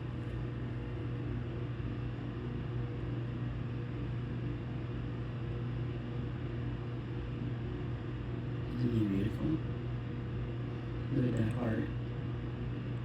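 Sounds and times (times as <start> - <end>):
steady low machine hum: 0.0 - 13.0.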